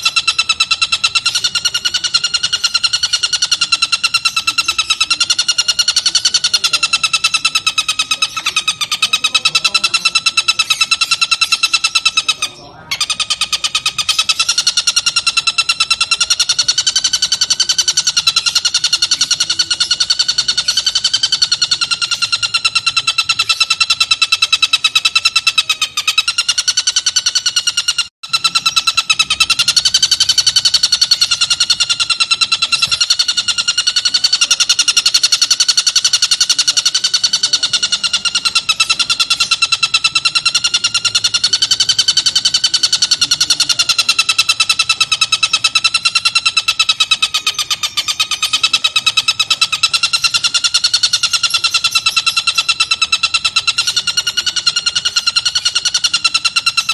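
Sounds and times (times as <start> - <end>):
bird rapid chattering call: 0.0 - 56.9.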